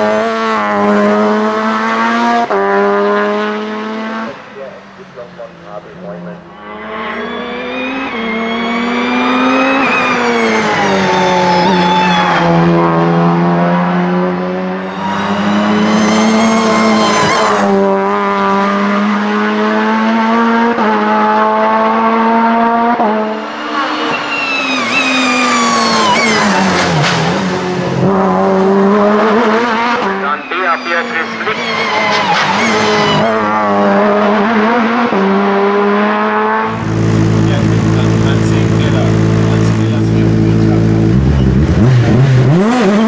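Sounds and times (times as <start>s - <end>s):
race car engine revving: 0.0s - 43.0s.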